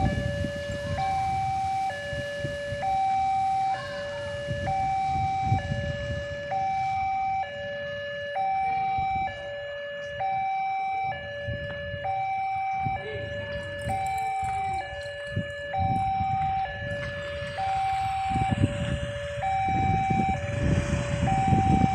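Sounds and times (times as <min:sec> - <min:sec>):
two-tone level crossing alarm: 0:00.0 - 0:21.9.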